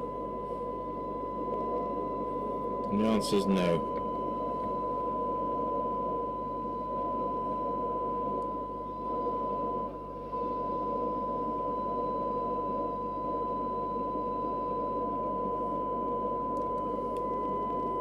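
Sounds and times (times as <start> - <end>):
steady test tone from loudspeaker: 0.0 - 18.0.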